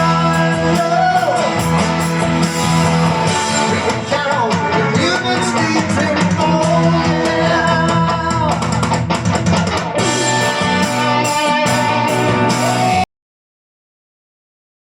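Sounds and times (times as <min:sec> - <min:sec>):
rock band playing: 0:00.0 - 0:13.1.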